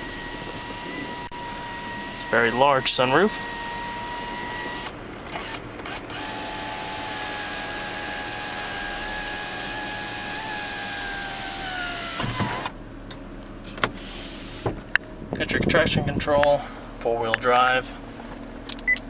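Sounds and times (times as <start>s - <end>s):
sunroof motor whining: 0.0s - 19.0s.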